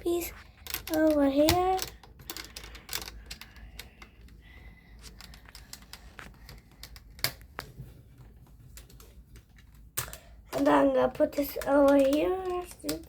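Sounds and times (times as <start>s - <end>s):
plastic pieces clicking and rattling: 0.2s - 4.4s, 5.0s - 7.8s, 8.7s - 13.0s.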